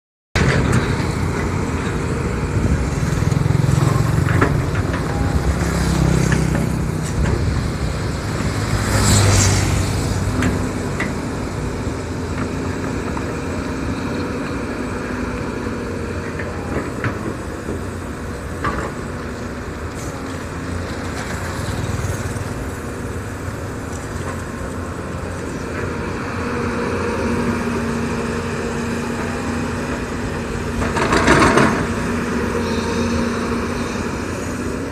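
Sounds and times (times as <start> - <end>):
excavator diesel engine running: 0.4 - 34.9
excavator digging dirt: 0.4 - 34.9.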